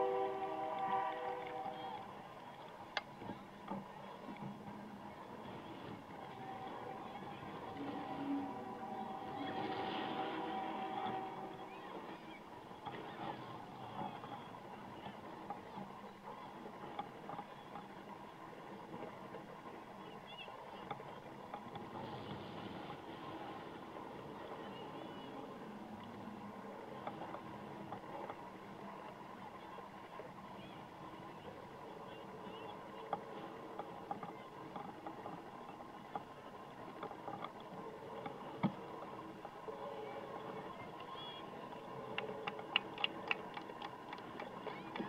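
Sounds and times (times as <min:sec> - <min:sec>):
background murmur: 0:00.0 - 0:45.0
faint outdoor background noise: 0:00.0 - 0:45.0.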